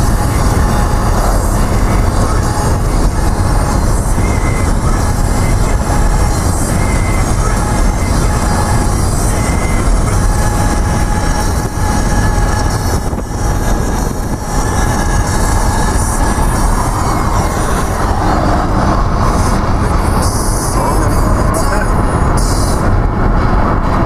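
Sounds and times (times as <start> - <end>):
engine drone: 0.0 - 24.0
tyres rumbling on pavement: 0.0 - 24.0
wind noise: 0.0 - 24.0.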